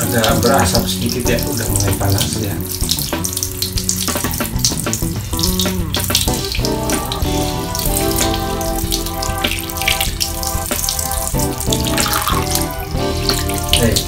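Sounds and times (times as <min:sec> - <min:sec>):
background music sustained notes: 0:00.0 - 0:14.0
shower water splashing on tiles: 0:00.0 - 0:14.0.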